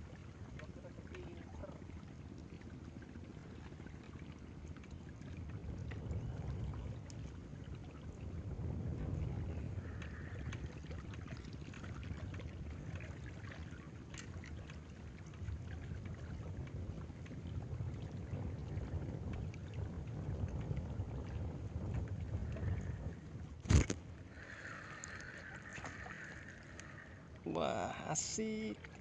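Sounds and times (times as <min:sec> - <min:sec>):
wind rumbling on microphone: 0:00.0 - 0:27.5
water lapping: 0:00.0 - 0:29.0.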